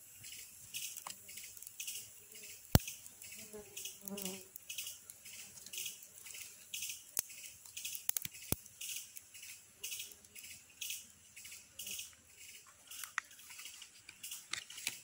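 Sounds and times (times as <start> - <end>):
insects calling: 0.0 - 15.0
wood cracking in campfire: 0.3 - 11.0, 12.6 - 15.0.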